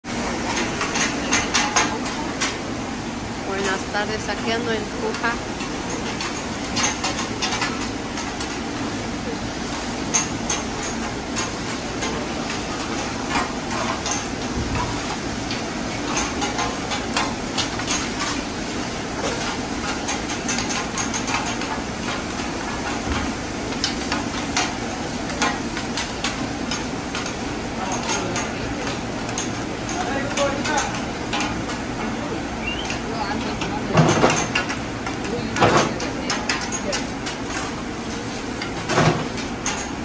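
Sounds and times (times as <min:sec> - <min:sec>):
food sizzling on griddle: 0:00.1 - 0:40.0.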